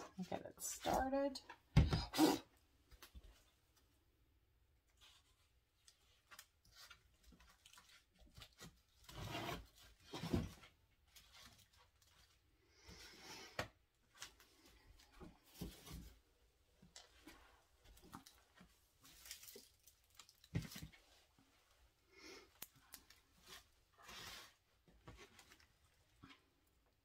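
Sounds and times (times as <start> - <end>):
rubbing and scratching of materials: 0.0 - 4.0, 4.7 - 27.0.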